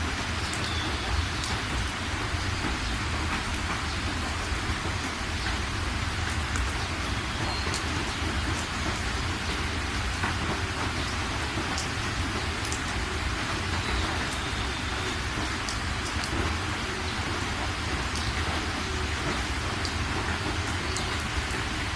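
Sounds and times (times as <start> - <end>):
steady rain falling: 0.0 - 21.9
sharp drips: 0.1 - 21.9.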